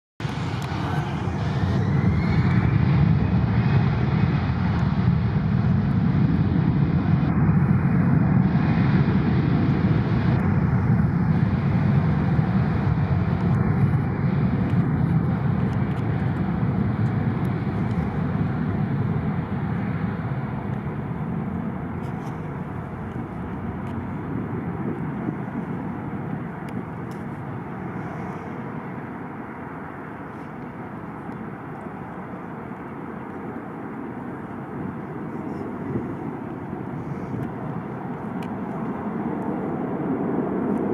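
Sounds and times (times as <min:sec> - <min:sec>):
jet engines at takeoff: 0:00.2 - 0:40.9.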